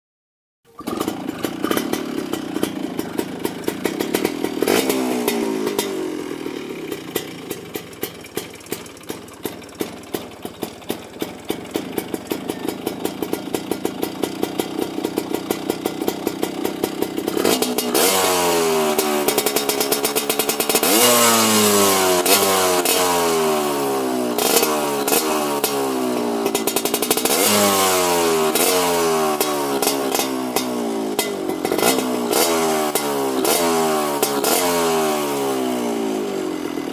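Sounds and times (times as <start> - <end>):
two-stroke engine revving: 0.7 - 36.9.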